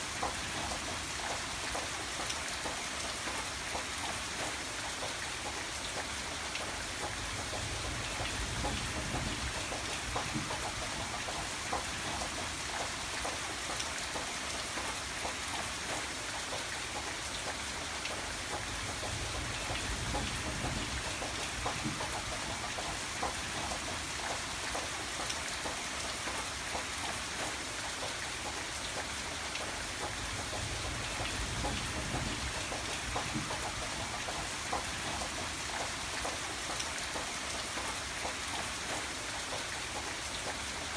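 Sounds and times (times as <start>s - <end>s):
rain drops ticking on a surface: 0.0s - 40.9s.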